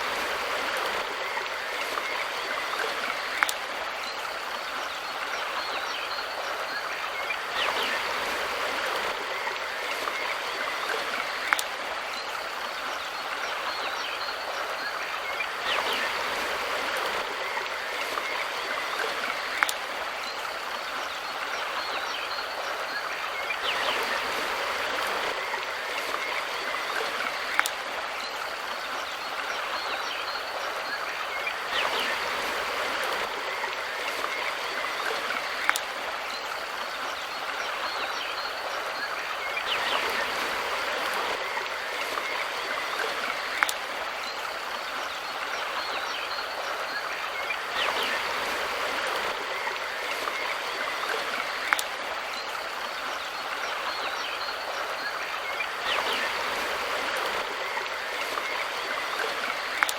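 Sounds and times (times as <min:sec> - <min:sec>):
river stream rushing: 0:00.0 - 0:59.9.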